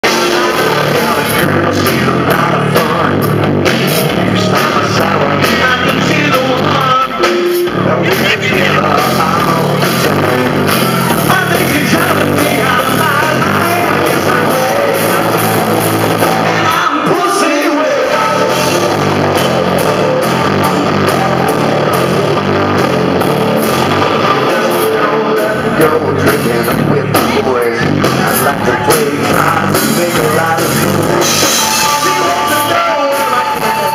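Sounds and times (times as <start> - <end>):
drums: 0.0 - 33.9
electric guitar: 0.0 - 33.9
live rock band playing: 0.0 - 33.9
person singing: 0.0 - 33.9.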